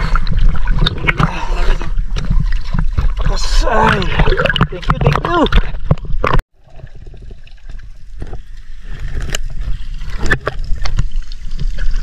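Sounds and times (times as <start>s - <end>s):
water splashes: 0.0s - 12.0s.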